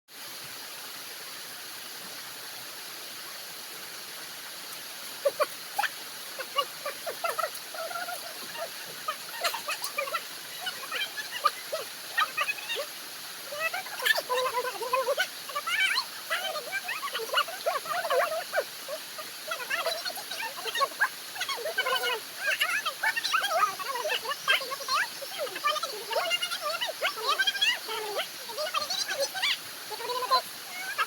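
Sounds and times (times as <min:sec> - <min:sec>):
steady hiss: 0:00.1 - 0:31.0
small animal squeaking and yelping: 0:05.2 - 0:31.0.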